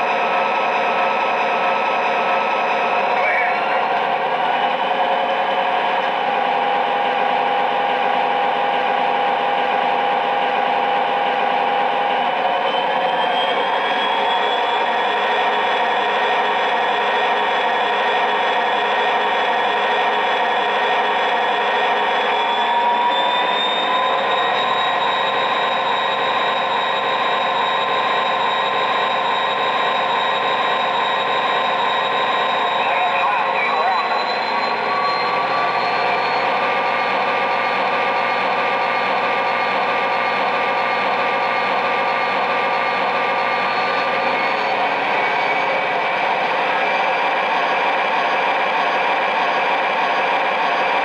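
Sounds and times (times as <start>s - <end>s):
diesel engine sound from small speaker: 0.0s - 51.0s
steady whine: 0.0s - 51.0s.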